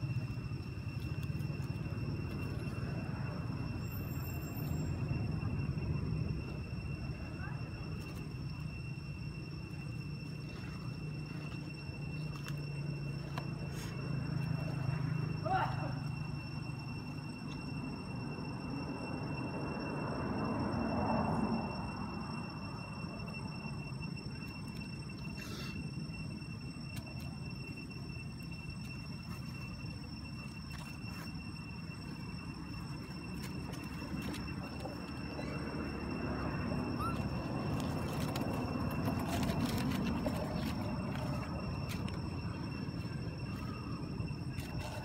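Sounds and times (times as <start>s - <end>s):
steady low hum: 0.0s - 45.0s
thin high whine: 0.0s - 45.0s.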